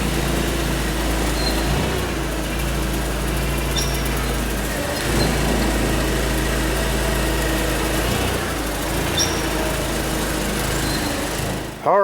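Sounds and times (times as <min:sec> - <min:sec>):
engine running steadily: 0:00.0 - 0:11.9.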